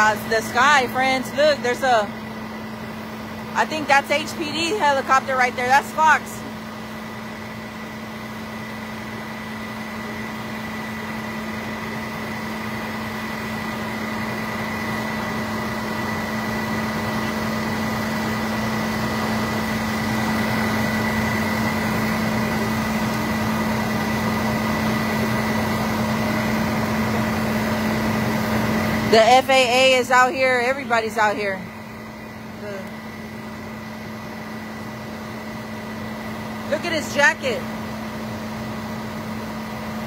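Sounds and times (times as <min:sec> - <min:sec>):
engine drone: 0:00.0 - 0:40.0.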